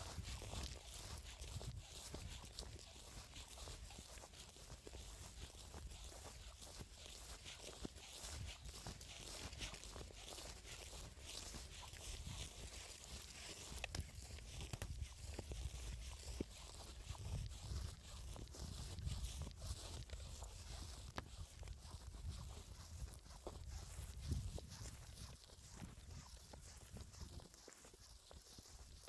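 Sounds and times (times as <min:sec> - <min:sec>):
footsteps through vegetation: 0:00.0 - 0:29.0.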